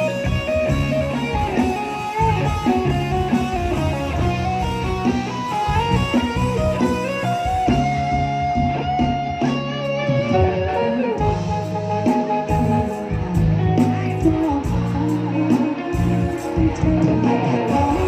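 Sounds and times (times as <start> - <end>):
bass guitar: 0.0 - 18.0
electric guitar: 0.0 - 18.0
live band playing: 0.0 - 18.0.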